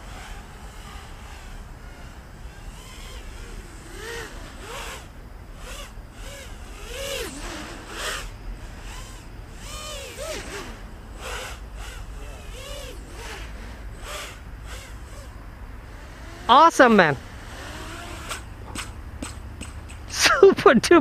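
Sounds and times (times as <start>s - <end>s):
drone motors whining: 0.0s - 20.3s.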